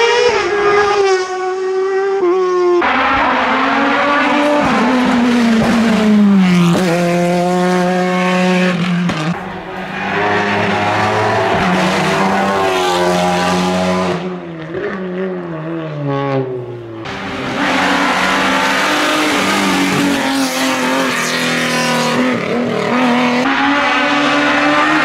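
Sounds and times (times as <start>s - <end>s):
race car engine passing: 0.0s - 25.0s.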